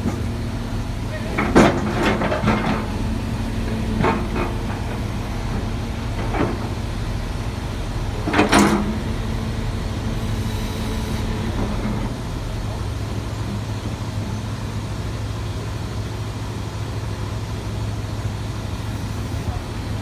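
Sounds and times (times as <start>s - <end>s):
excavator diesel engine idling: 0.0s - 20.0s.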